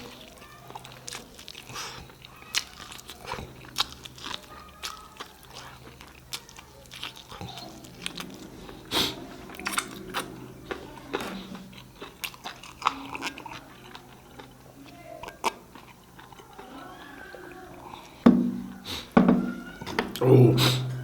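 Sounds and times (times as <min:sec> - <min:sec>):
chewing and biting food: 0:00.0 - 0:18.2
mouth clicks and crunches: 0:00.0 - 0:18.2.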